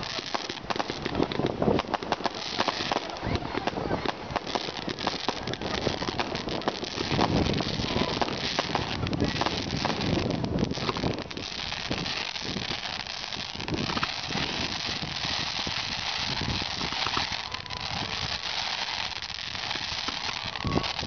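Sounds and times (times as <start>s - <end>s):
firework sparks hissing and crackling: 0.0s - 21.0s.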